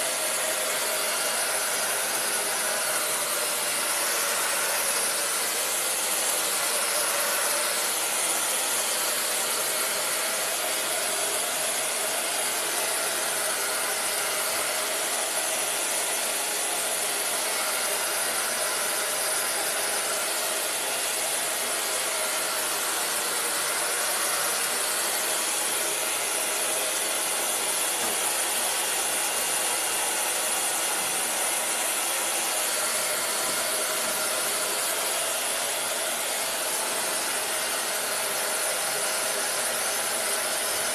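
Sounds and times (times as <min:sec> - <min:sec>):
hand-held dryer blowing: 0:00.0 - 0:40.9.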